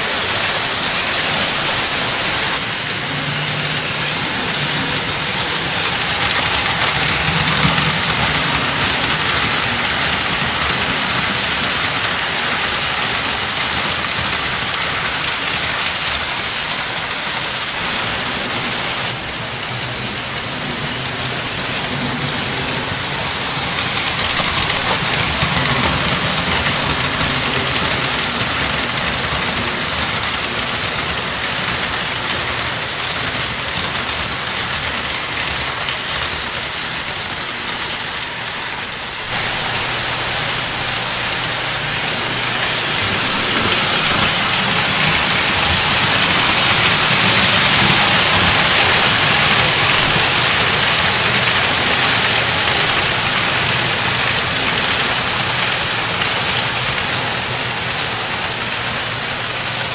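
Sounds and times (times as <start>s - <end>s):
toy train wheels rolling on track: 0.0s - 59.9s.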